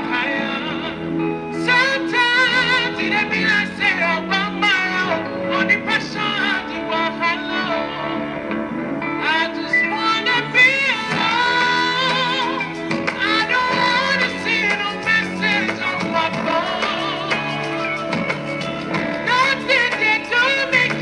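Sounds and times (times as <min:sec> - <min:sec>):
instrumental backing: 0:00.0 - 0:21.0
person singing with vibrato: 0:00.0 - 0:21.0.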